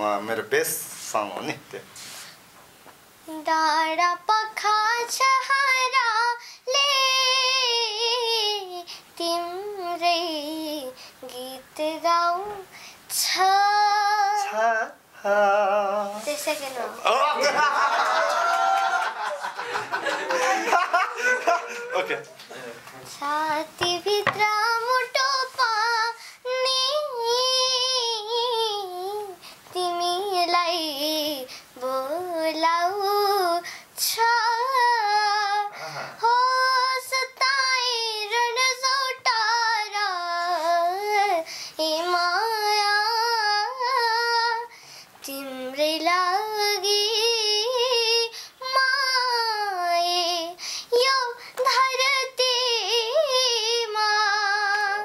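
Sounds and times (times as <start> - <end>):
girl singing unaccompanied: 3.1 - 17.1, 23.1 - 55.0.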